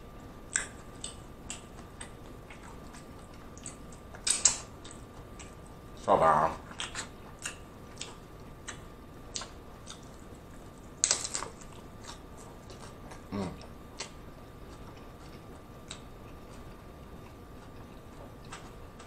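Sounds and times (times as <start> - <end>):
chewing crunchy taco: 0.4 - 19.0.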